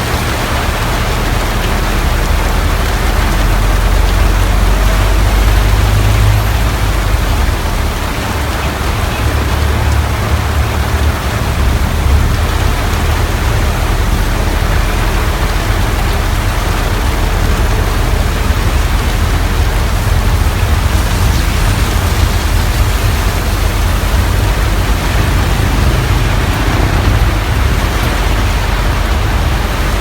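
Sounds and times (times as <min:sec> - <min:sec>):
heavy rain: 0:00.0 - 0:30.0
road noise: 0:00.0 - 0:30.0
vehicle engine rumble: 0:00.0 - 0:30.0.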